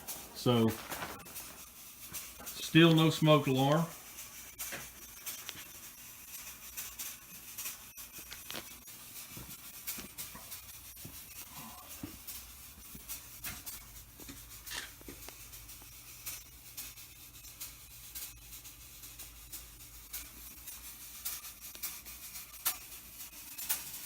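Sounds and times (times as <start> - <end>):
fog machine humming and hissing: 0.0 - 24.0.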